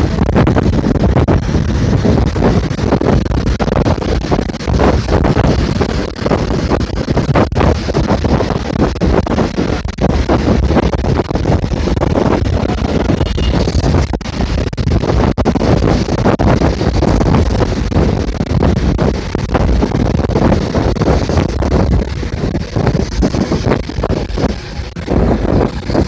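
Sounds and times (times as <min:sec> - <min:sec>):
bus moving on wet road: 0:00.0 - 0:26.0
wind buffeting microphone: 0:00.0 - 0:26.0.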